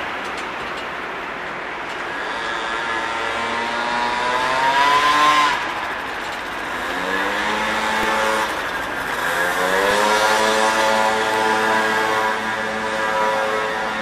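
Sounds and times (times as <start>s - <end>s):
traffic hiss: 0.0s - 14.0s
engine accelerating through gears: 2.0s - 14.0s.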